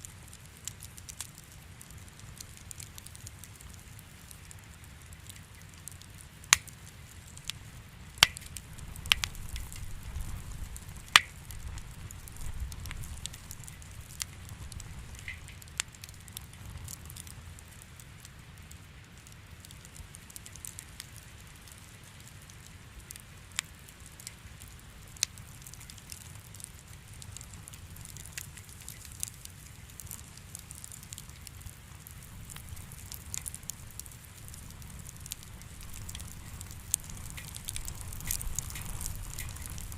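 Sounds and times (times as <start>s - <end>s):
low rumble of flames: 0.0s - 39.9s
sharp pops of fire: 0.0s - 39.9s
wood fire crackling: 0.0s - 39.9s.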